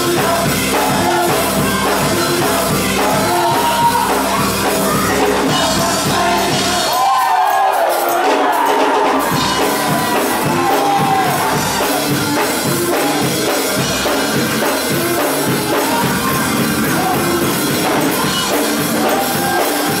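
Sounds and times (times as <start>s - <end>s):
band playing gospel song: 0.0s - 20.0s
church choir singing: 0.0s - 20.0s.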